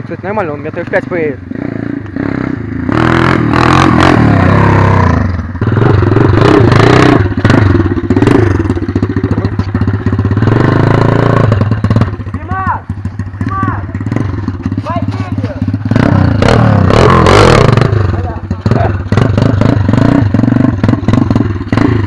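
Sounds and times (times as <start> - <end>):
small motorbike engine revving: 1.5 - 22.0.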